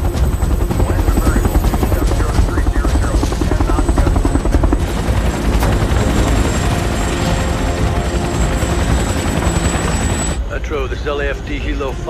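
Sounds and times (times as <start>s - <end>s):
helicopter rotor beat: 0.0s - 12.0s.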